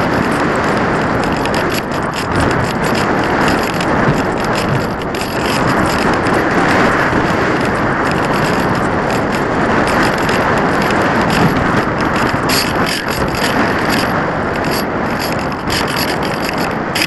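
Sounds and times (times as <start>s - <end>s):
light clicks and rattles: 0.0s - 17.0s
wind rushing over microphone: 0.0s - 17.0s.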